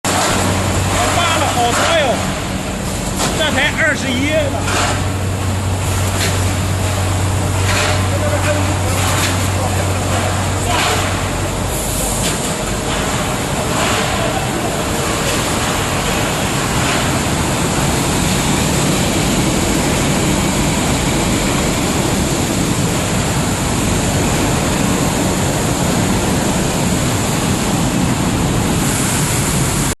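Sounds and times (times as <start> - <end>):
tray-washing machine running: 0.0 - 30.0.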